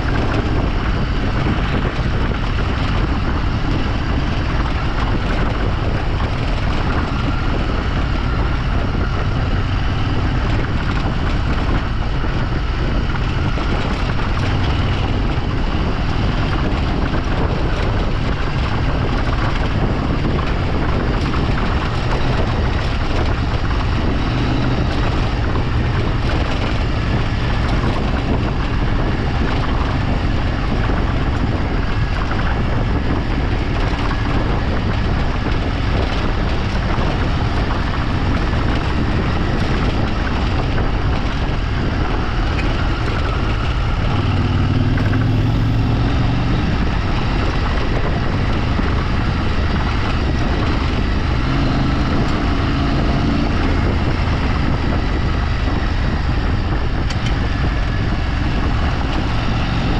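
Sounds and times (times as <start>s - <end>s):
vehicle engine running: 0.0s - 59.9s
wind buffeting microphone: 0.0s - 59.9s.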